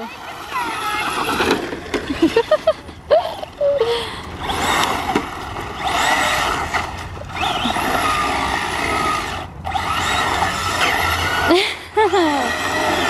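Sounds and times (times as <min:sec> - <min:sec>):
rc truck motor whining: 0:00.0 - 0:02.6, 0:03.3 - 0:13.0.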